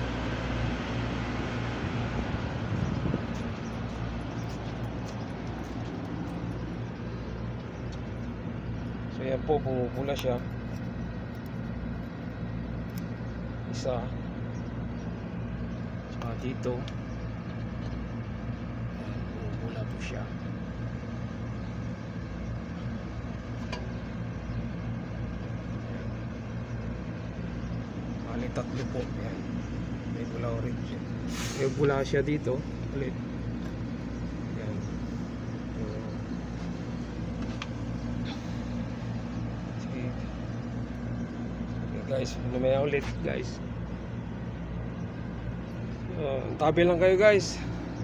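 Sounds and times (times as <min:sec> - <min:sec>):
low hum: 0:00.0 - 0:48.0.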